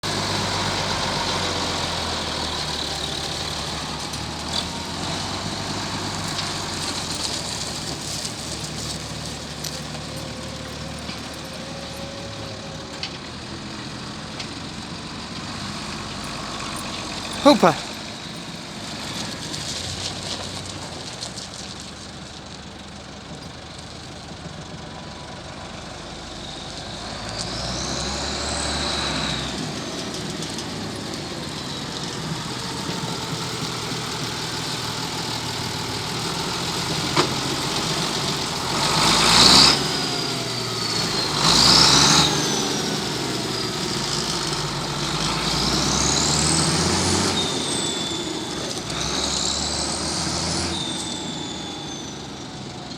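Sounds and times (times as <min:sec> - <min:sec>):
tractor diesel engine revving: 0:00.0 - 0:21.5, 0:25.6 - 0:52.9.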